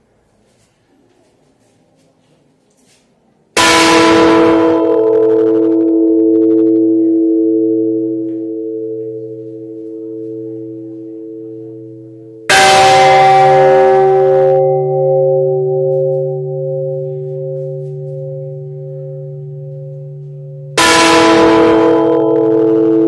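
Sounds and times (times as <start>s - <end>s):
church bell tolling: 3.5s - 23.0s.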